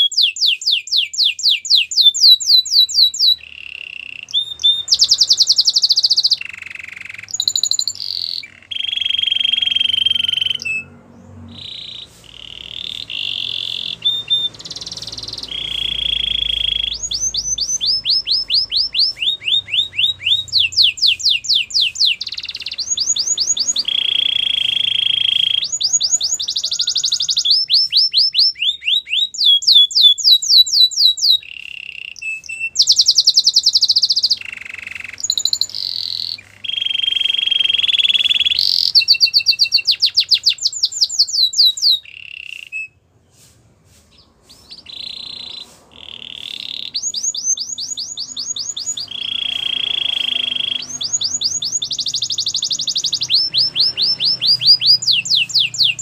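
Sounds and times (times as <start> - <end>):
canary singing trills: 0.0 - 43.5, 44.1 - 56.0.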